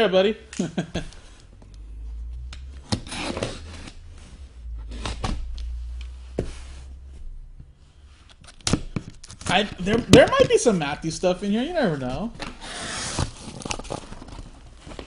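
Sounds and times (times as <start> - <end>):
steady low hum: 0.3 - 12.6
boxes rubbing and shuffling: 2.2 - 15.0.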